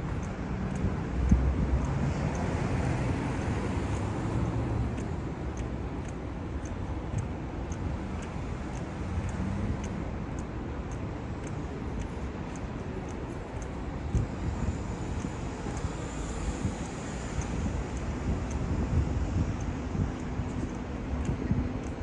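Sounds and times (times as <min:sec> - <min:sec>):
cars passing on street: 0:00.0 - 0:22.0
faint regular ticking: 0:00.0 - 0:22.0.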